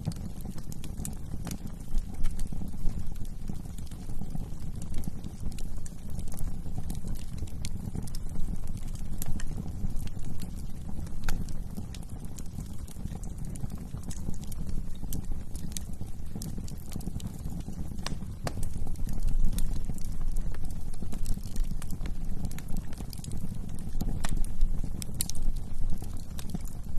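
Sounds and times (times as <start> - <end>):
low rumble of flames: 0.0 - 26.9
wood fire crackling and popping: 0.0 - 26.9.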